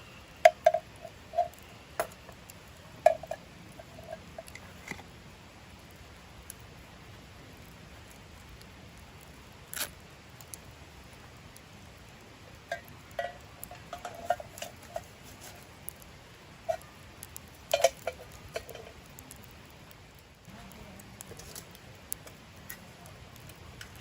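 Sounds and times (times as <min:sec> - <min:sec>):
steady low hiss: 0:00.0 - 0:24.0.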